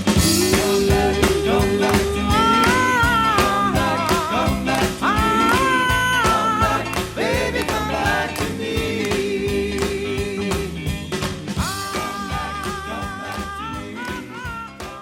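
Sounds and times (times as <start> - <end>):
backing band with steady beat: 0.0 - 15.0
doo-wop vocal group singing: 0.0 - 15.0.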